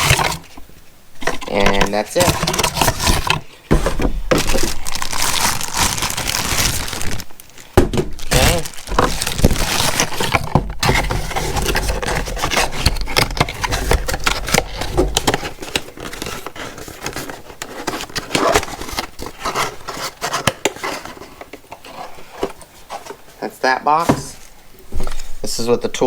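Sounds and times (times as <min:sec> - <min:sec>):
cardboard and plastic rustling: 0:00.0 - 0:25.8.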